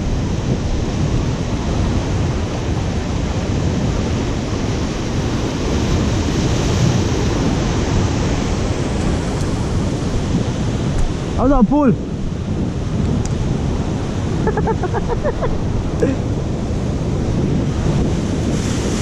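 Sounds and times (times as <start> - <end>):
surf breaking on rocks: 0.0 - 19.0
wind buffeting microphone: 0.0 - 19.0.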